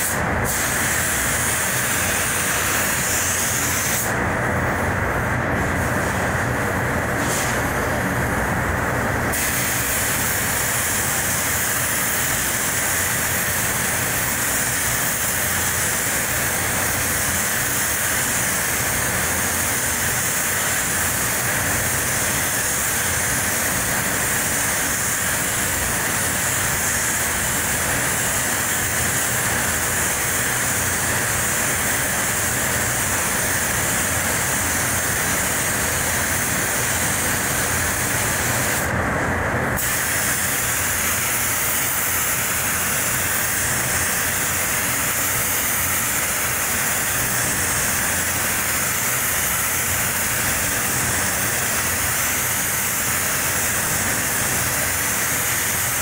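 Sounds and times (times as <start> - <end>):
paint spray gun hissing: 0.0 - 4.8, 5.5 - 8.2, 9.3 - 39.0, 39.8 - 56.0.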